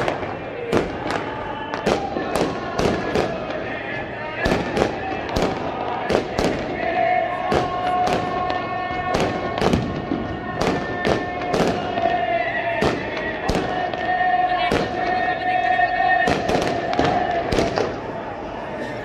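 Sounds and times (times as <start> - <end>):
fireworks bangs: 0.0 - 18.5.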